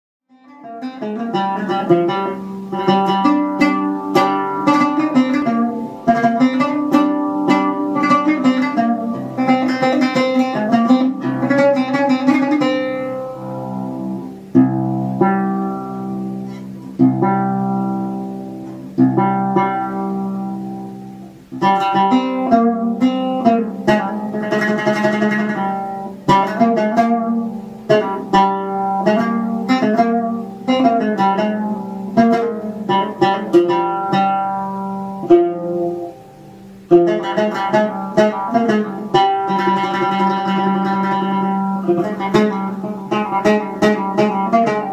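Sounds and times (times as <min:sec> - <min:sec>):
plucked lute playing: 0:00.3 - 0:44.9.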